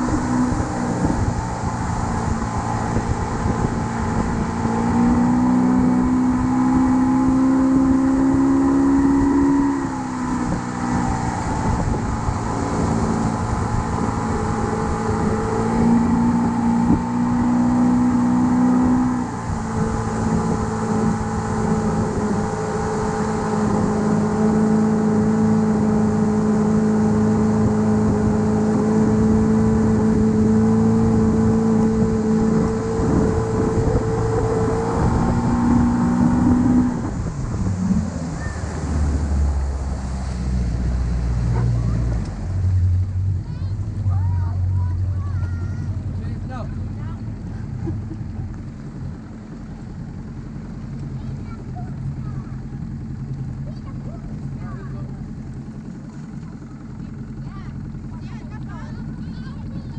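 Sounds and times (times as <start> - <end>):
motor engine running: 0.0 - 59.9.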